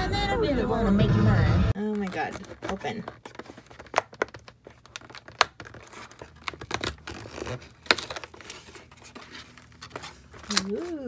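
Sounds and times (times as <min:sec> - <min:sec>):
packaging torn and crinkled: 0:01.8 - 0:11.0.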